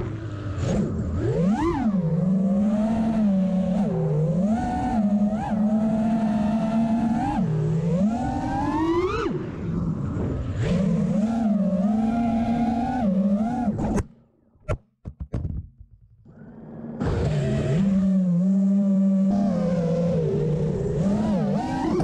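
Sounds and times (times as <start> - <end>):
quadcopter motors whining: 0.0 - 14.0, 16.3 - 22.0.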